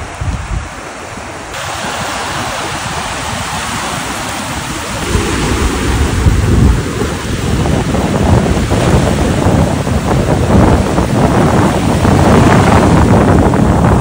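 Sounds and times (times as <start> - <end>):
surf hissing: 0.0 - 14.0
wind buffeting microphone: 0.0 - 14.0.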